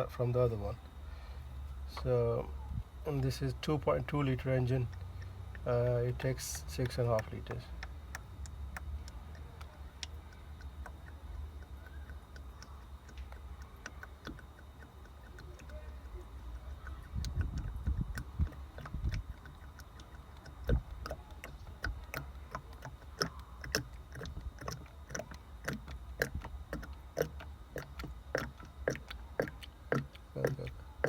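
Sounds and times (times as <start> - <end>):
plastic jug clicking and crackling: 3.1 - 31.0.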